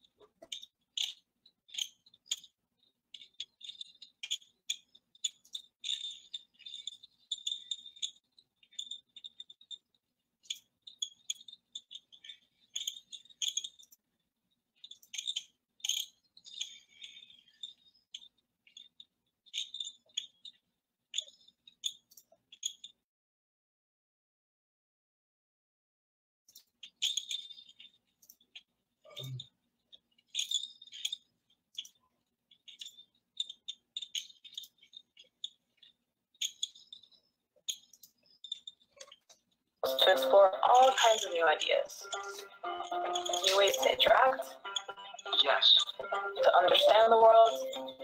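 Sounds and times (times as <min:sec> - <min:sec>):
light clicking and rattling: 0:00.0 - 0:14.1, 0:14.7 - 0:23.0, 0:26.5 - 0:48.0.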